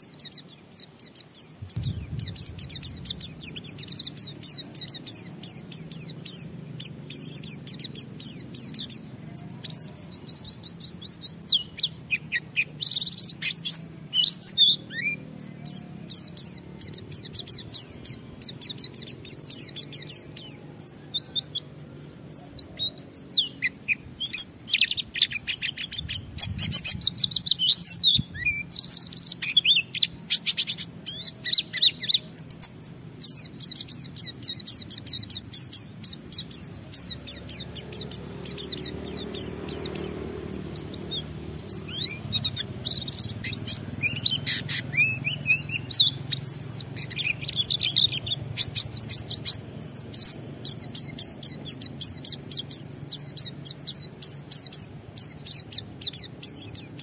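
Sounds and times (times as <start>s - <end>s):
bird singing rapid chirps: 0.0s - 57.0s.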